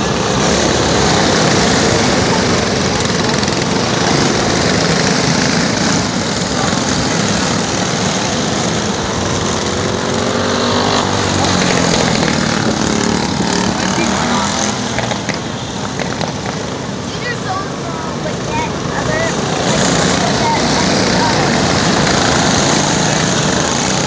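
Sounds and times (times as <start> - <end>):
go-kart engines racing: 0.0 - 24.0.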